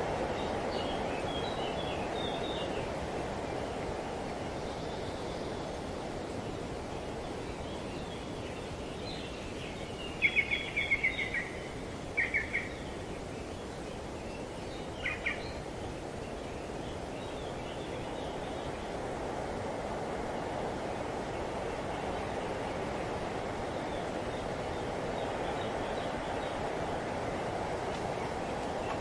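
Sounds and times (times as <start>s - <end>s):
wind through tree foliage: 0.0s - 29.0s.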